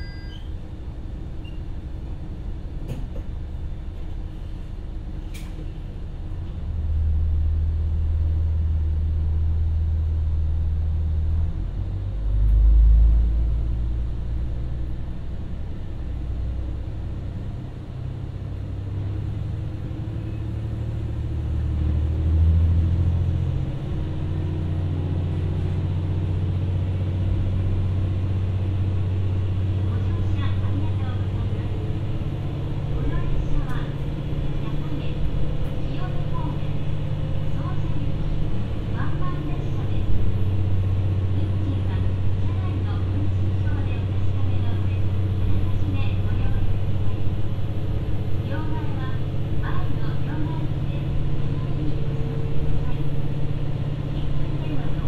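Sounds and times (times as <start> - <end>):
railcar diesel engine: 0.0 - 55.0.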